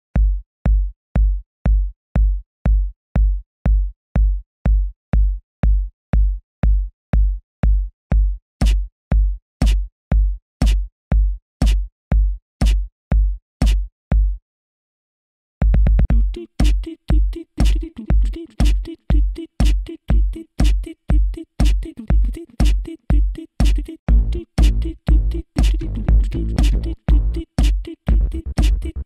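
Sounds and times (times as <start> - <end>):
deep kick beat: 0.0 - 14.4, 15.6 - 29.0.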